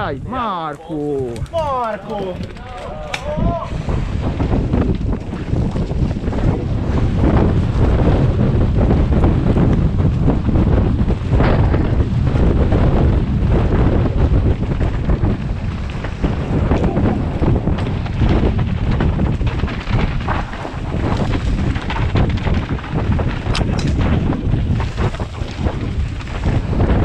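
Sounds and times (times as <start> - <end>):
wind buffeting microphone: 0.0 - 27.0
tyres on dusty dirt: 0.1 - 27.0
bike knocking and rattling: 1.3 - 27.0.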